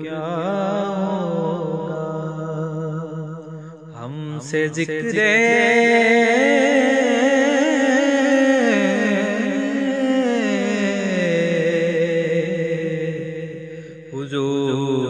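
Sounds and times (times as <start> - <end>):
man singing devotional chant: 0.0 - 15.0.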